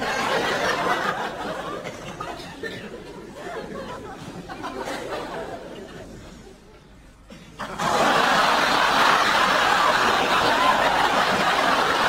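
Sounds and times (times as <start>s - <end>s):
audience laughter: 0.0s - 6.7s, 7.6s - 12.0s.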